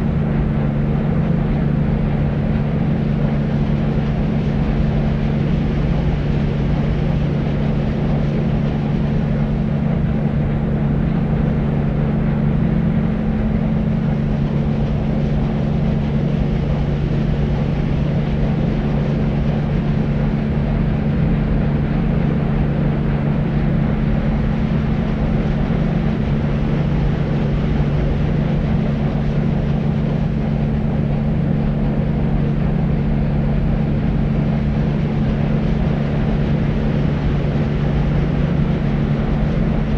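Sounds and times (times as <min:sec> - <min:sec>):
deep white noise rumble: 0:00.0 - 0:39.9.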